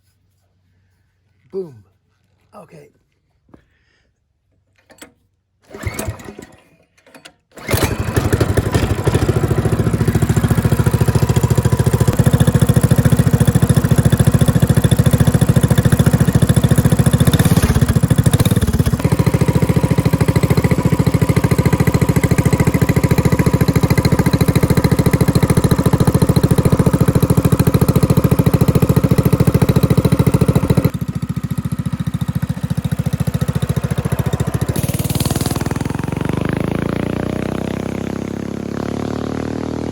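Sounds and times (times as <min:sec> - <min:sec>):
mini bike engine running loudly: 0:05.7 - 0:06.4, 0:07.6 - 0:39.9.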